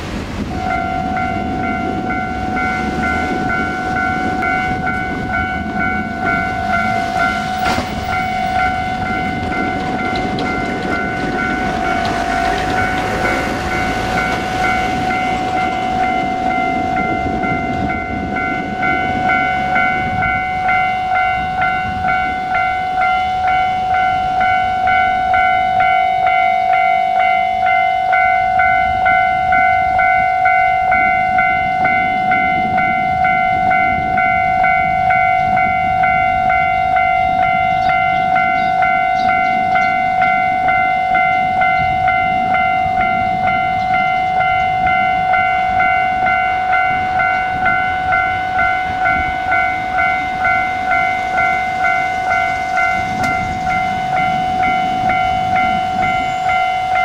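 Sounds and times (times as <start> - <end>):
level crossing warning bell: 0.0 - 57.0
road traffic: 0.0 - 57.0.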